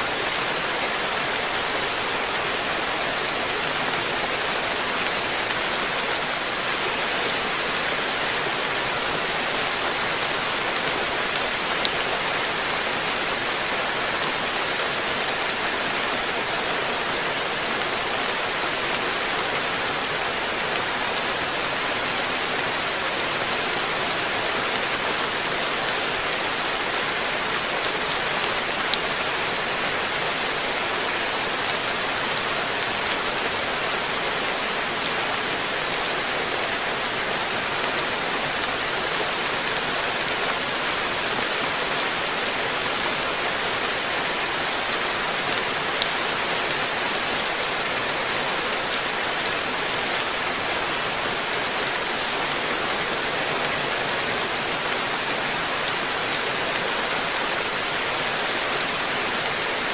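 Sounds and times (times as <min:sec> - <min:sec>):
rain falling on pond: 0:00.0 - 0:59.9.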